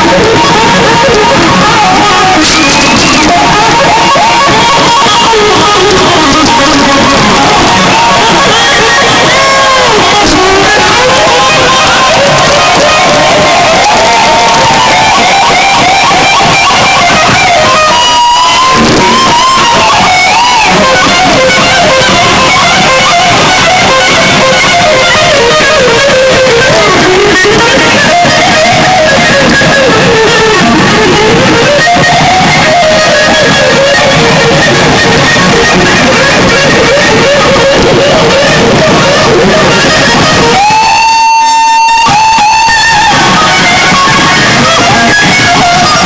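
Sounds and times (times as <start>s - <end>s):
electric guitar solo: 0.0s - 46.0s.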